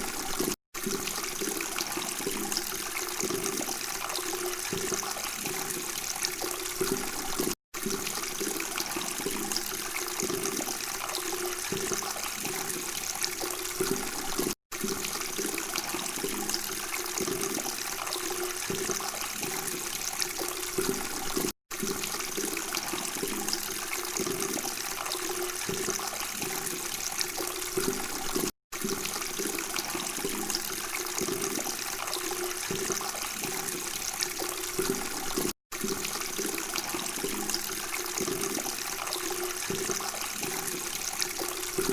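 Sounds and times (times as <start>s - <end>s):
running water babbling: 0.0s - 41.9s.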